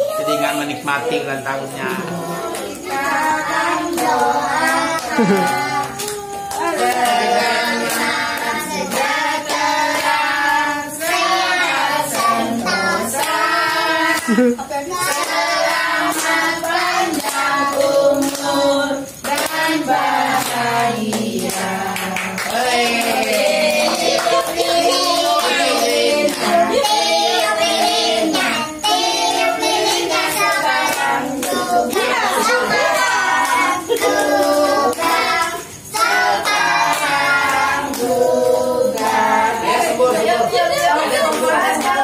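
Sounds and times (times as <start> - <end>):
people singing together: 0.0 - 42.0
hands clapping: 2.0 - 10.2, 14.1 - 18.6, 19.2 - 29.0, 29.9 - 42.0.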